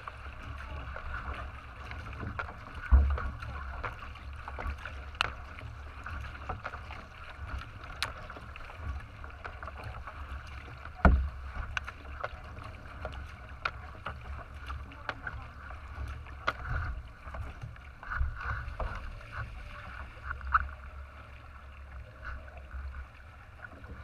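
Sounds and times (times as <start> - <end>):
water rushing along kayak: 0.0 - 24.0.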